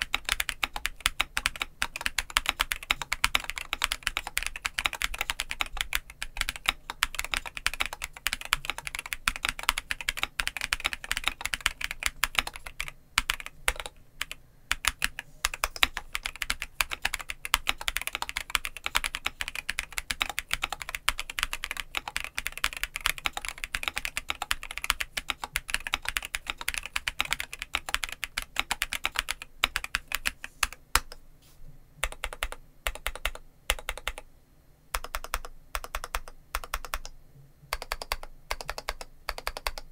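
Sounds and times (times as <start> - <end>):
mechanical keyboard typing: 0.0 - 31.2, 32.0 - 34.2, 35.0 - 39.9.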